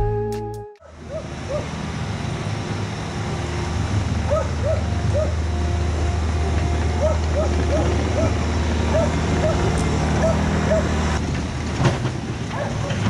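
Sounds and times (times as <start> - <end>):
diesel engine running: 0.9 - 13.0.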